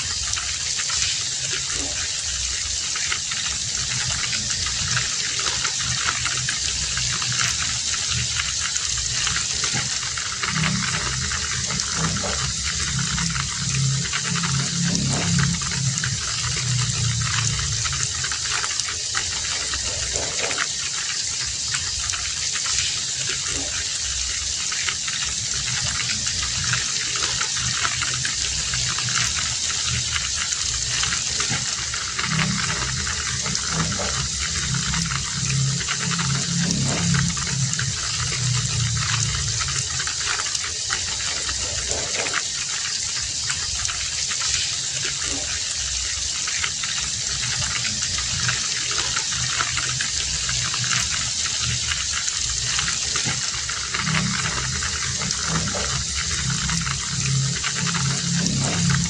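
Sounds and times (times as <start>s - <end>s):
heavy rain falling: 0.0s - 59.0s
running water rushing: 0.0s - 59.0s.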